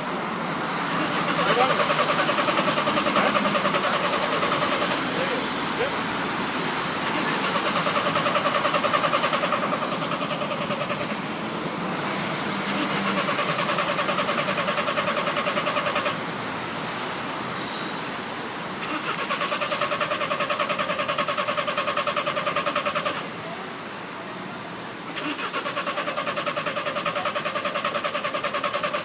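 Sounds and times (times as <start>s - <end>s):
starter motor cranking engine: 0.8s - 16.2s, 18.8s - 23.3s, 25.1s - 29.0s.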